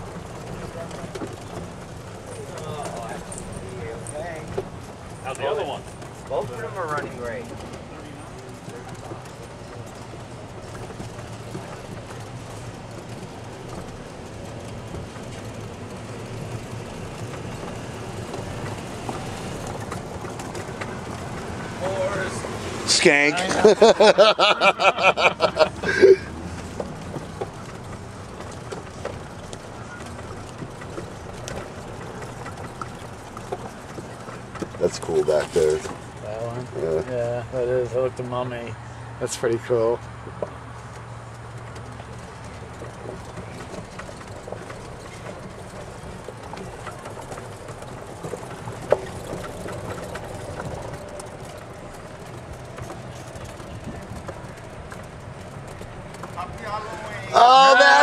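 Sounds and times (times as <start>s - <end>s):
faint rattles and clicks: 0.0s - 57.3s
vehicle running with low hum: 0.0s - 58.0s.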